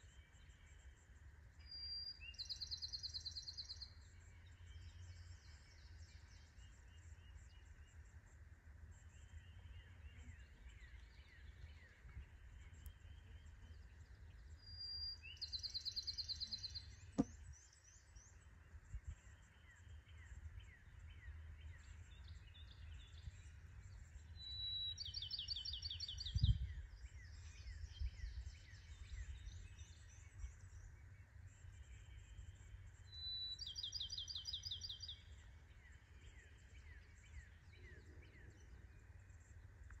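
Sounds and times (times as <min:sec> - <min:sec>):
songbird trilling song: 0:00.0 - 0:40.0.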